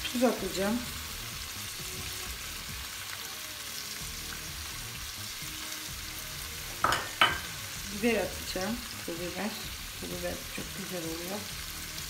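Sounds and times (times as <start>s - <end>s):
beef sizzling in a pan: 0.0s - 12.0s.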